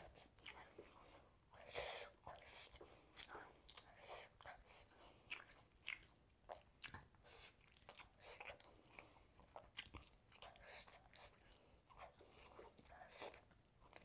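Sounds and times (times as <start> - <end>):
person chewing chicken: 0.0 - 1.4, 2.3 - 14.0.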